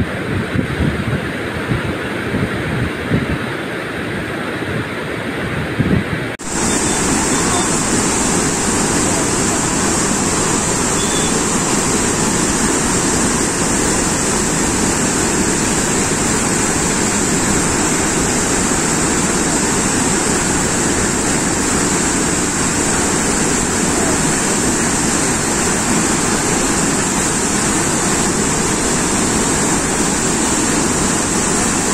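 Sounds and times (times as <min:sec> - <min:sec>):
dam water rushing and churning: 0:00.0 - 0:31.9.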